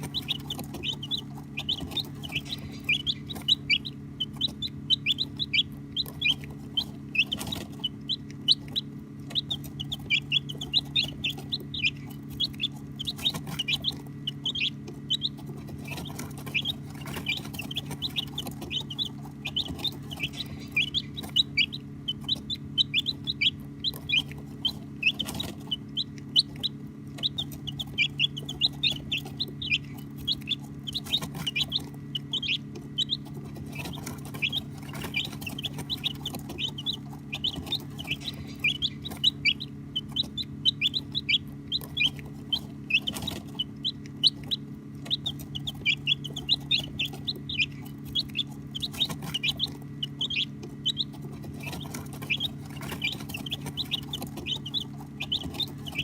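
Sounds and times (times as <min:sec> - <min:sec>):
baby chicks peeping: 0:00.0 - 0:56.0
steady low hum: 0:00.0 - 0:56.0.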